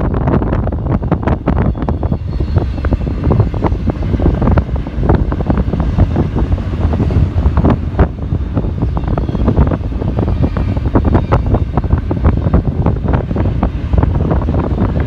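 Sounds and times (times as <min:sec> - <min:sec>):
freight train rumbling past: 0:00.0 - 0:15.0
wind buffeting microphone: 0:00.0 - 0:15.0.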